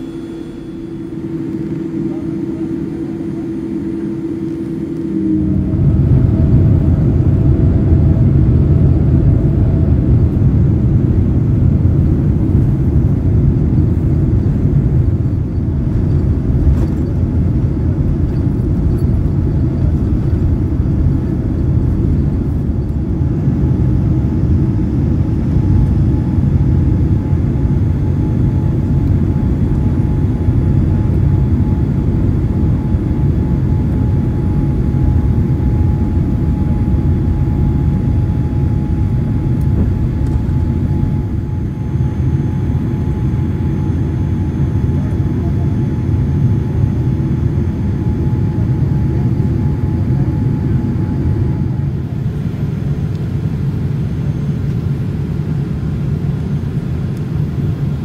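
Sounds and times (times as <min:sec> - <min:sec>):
faint steady whine: 0:00.0 - 0:58.0
jet engines rumbling: 0:00.0 - 0:58.0.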